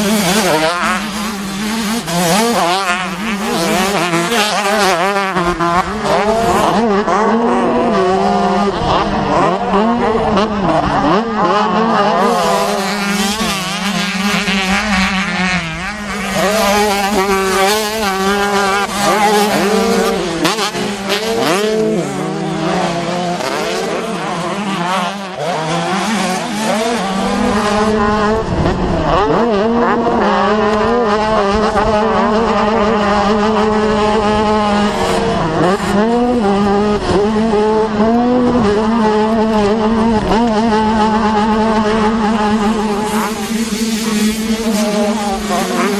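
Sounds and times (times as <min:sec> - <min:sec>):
dirt bike engines revving: 0:00.0 - 0:45.9
low engine drone: 0:00.0 - 0:45.9.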